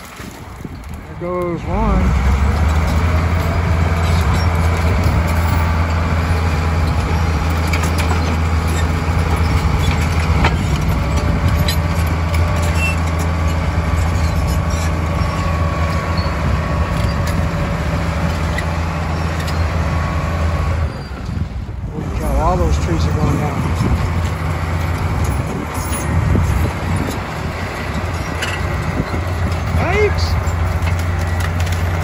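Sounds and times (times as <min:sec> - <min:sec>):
bulldozer diesel engine: 0:00.0 - 0:32.0.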